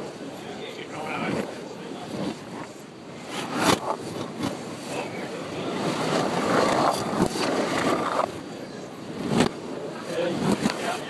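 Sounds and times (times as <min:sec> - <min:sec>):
reversed bowling balls and pins: 0:01.0 - 0:11.0.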